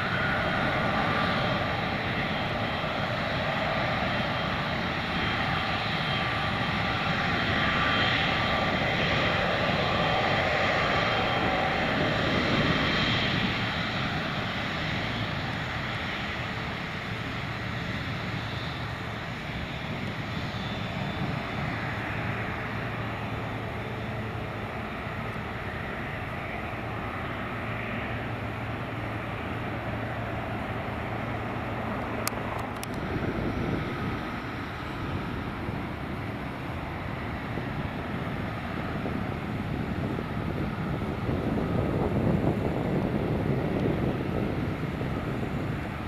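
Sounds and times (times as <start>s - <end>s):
jet engine rush: 0.0s - 46.0s.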